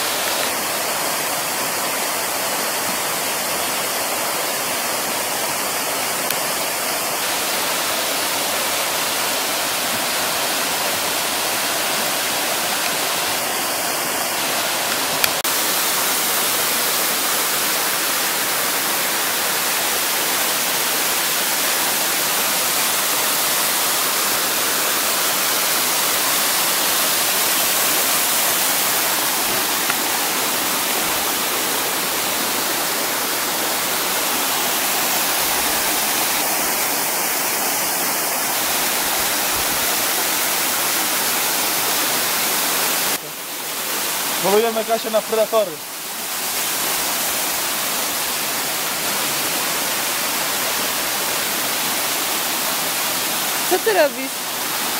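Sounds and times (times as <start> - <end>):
waterfall rushing over rocks: 0.0 - 54.9.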